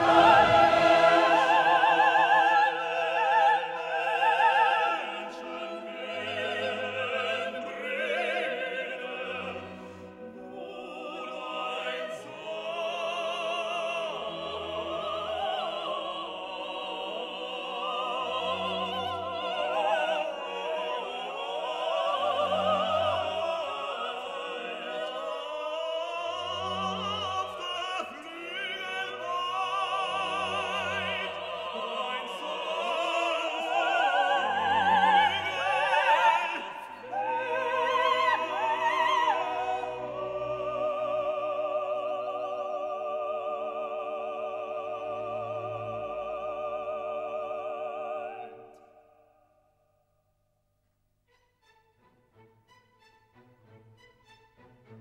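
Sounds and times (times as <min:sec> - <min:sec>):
operatic voice singing: 0:00.0 - 0:48.8
orchestral music: 0:00.0 - 0:48.8, 0:51.3 - 0:55.0.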